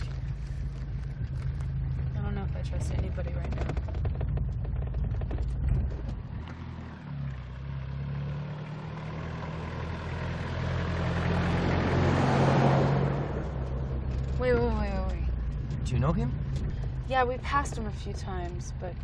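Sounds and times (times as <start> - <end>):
truck engine running: 0.0 - 19.0
tyres on gravel road: 0.0 - 19.0.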